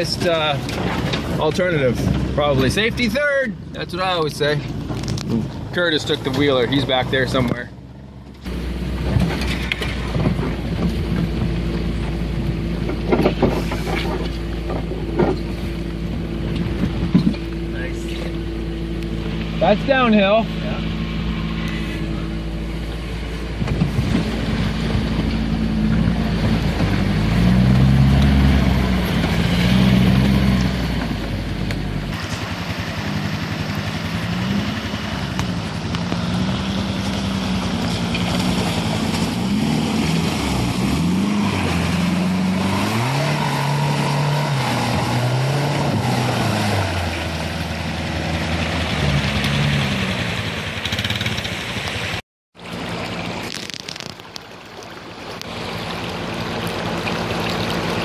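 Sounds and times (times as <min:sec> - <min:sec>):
off-road vehicle engine: 0:00.0 - 0:58.0.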